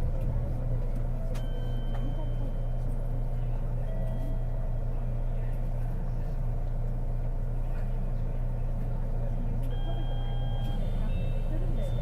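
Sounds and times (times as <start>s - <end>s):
train cabin hum and rumble: 0.0s - 12.0s.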